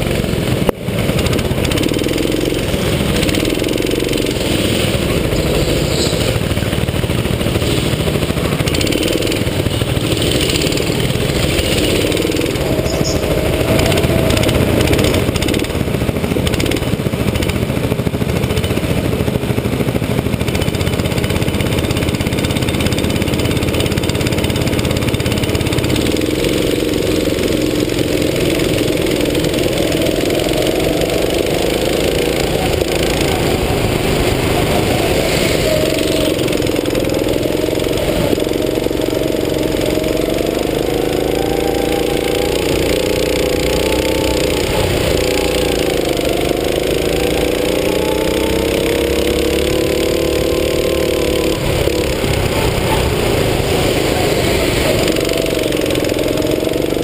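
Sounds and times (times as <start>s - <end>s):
go-kart engine drone: 0.0s - 57.0s.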